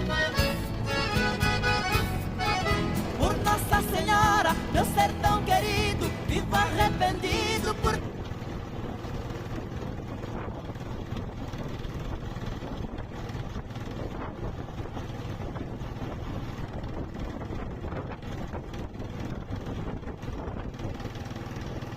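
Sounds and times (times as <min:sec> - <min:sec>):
boat motor running: 0:00.0 - 0:21.9
wind buffeting microphone: 0:00.0 - 0:21.9.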